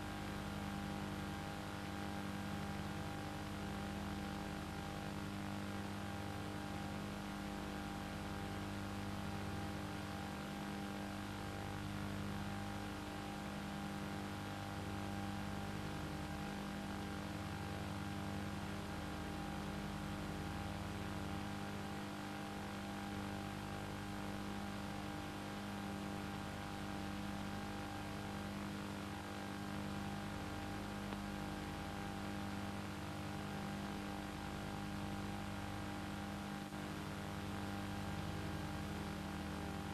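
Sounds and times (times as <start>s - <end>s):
electrical hum with tones: 0.0s - 39.9s.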